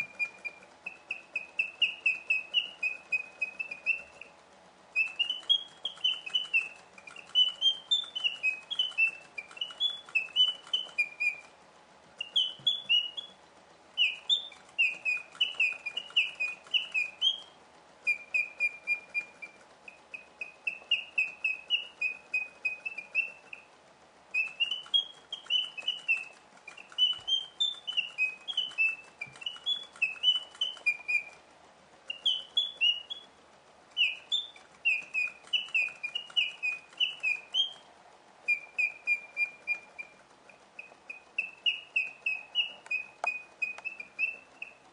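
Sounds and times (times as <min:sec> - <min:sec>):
faint mechanism ticking: 0:00.0 - 0:44.9
mechanical birds whistling: 0:00.0 - 0:44.9.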